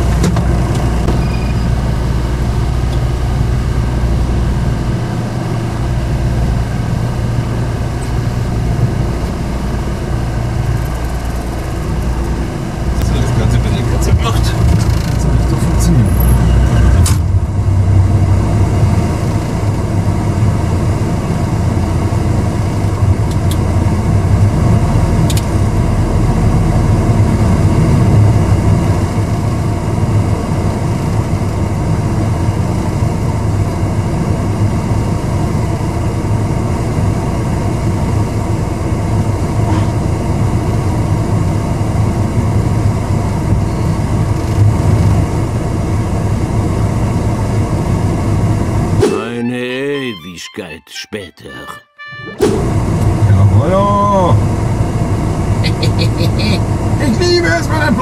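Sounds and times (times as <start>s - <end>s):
engine running steadily: 0.0s - 49.4s, 52.3s - 58.0s.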